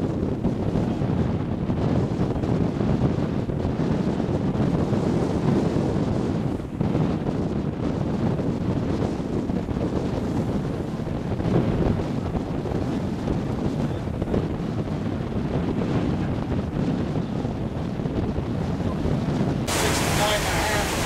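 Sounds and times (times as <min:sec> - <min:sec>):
water washing along hull: 0:00.0 - 0:16.9, 0:17.5 - 0:21.0
wind buffeting microphone: 0:00.0 - 0:21.0.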